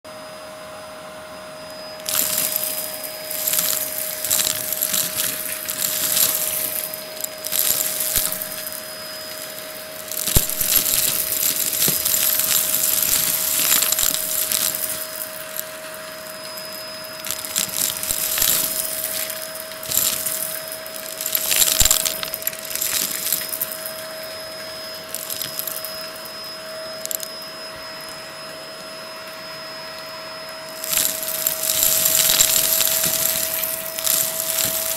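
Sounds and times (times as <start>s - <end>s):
vacuum motor whine: 0.1s - 34.9s
debris crunching and rattling: 2.0s - 26.3s, 27.0s - 27.3s, 30.7s - 34.9s.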